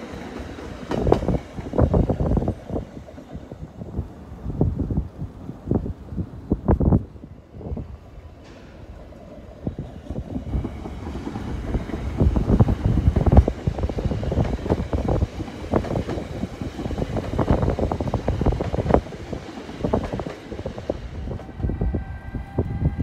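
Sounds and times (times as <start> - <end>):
train rumbling and clattering past: 0.0 - 23.0
wind buffeting microphone: 0.1 - 23.0.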